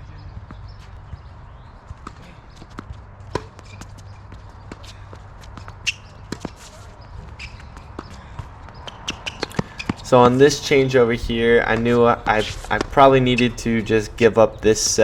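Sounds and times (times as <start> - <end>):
footsteps and shoe scuffs on court: 0.2 - 14.1
tennis ball bouncing: 0.2 - 14.9.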